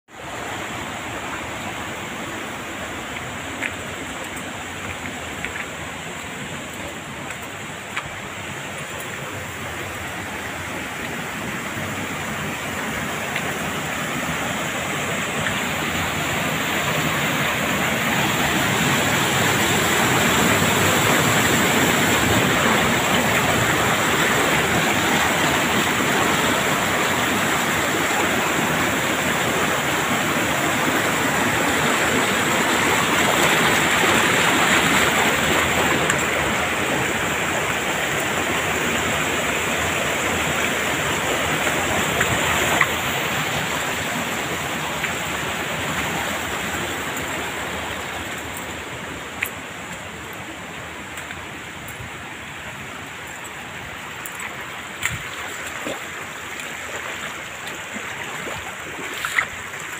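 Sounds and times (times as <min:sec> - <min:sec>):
water rushing over waterfall: 0:00.1 - 0:59.9.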